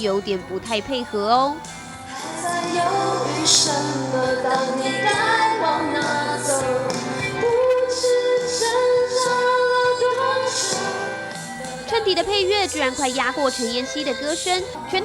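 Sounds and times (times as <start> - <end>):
loud backing music: 0.0 - 15.0
woman singing: 0.0 - 15.0.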